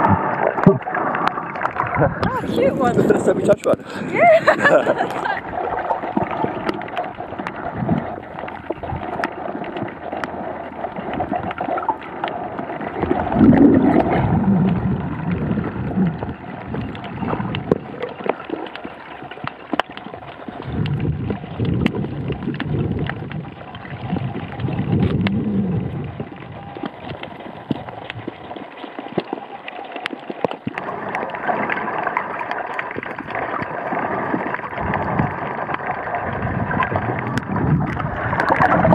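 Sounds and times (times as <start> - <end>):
muffled underwater gurgling: 0.0 - 38.9.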